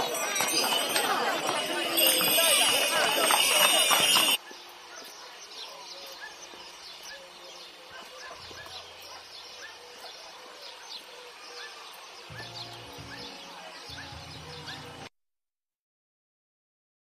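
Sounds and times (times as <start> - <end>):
birds chirping: 0.0 - 15.1.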